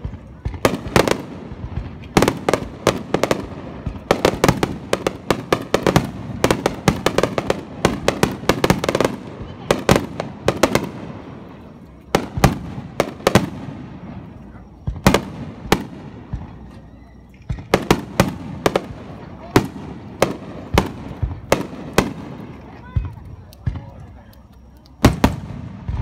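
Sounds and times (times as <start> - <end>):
crackling pops: 0.0 - 26.0.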